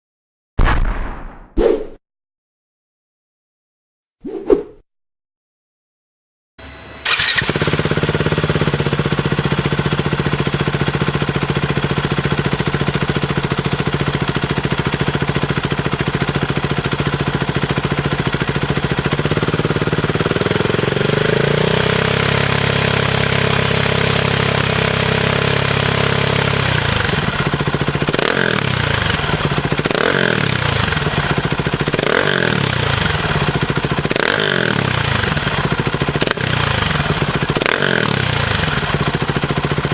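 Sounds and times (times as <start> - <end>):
motorcycle engine idling: 7.1 - 39.9.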